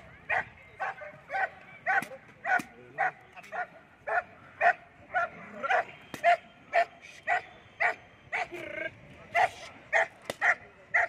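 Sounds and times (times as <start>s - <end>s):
dog barking: 0.3s - 8.5s, 9.4s - 11.0s.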